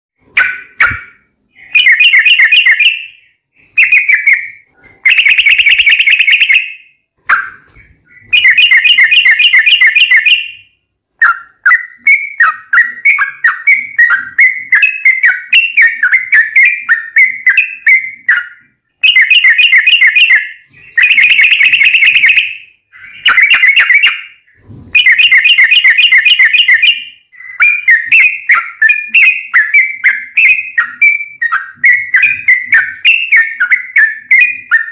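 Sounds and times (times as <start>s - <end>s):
bulbul singing: 0.3s - 34.9s.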